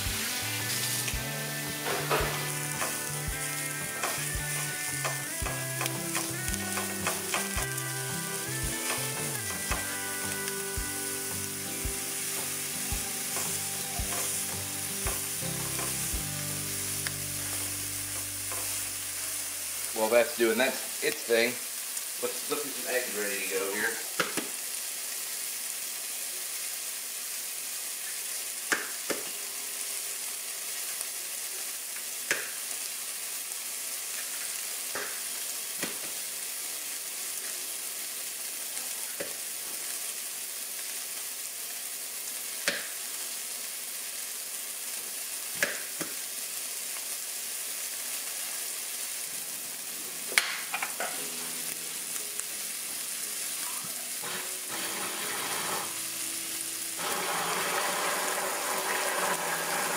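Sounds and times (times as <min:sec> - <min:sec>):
sausage sizzling in a pan: 0:00.0 - 0:59.9.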